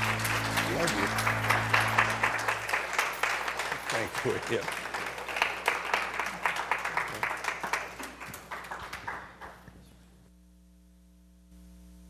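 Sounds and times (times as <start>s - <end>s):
congregation applauding: 0.0s - 9.9s.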